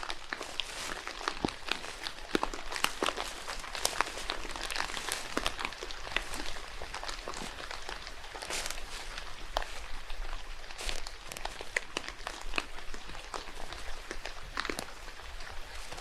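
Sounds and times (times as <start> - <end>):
footsteps crunching on wet trail: 0.0 - 16.0
rain dripping: 0.0 - 16.0.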